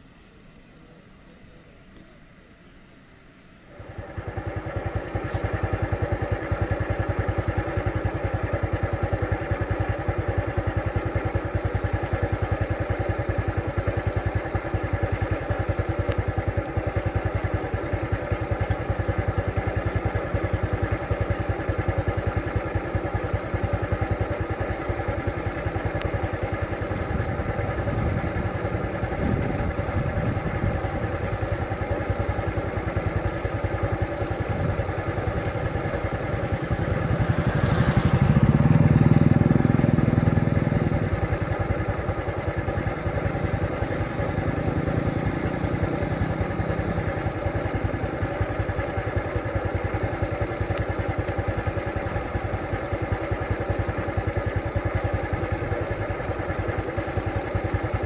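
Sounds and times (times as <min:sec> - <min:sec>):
vehicle engine idling: 0:03.6 - 0:58.0.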